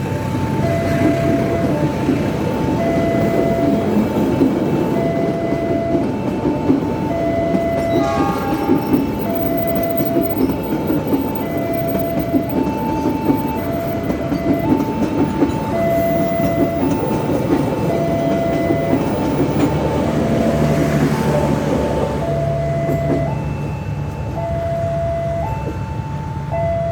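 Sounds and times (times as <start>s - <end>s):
train rumbling and clattering: 0.0s - 26.9s
two-tone crossing warning alarm: 0.0s - 26.9s.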